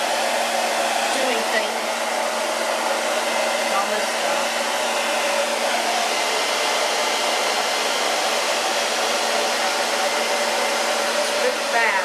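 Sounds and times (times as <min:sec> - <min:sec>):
hot-air dryer blowing: 0:00.0 - 0:12.0.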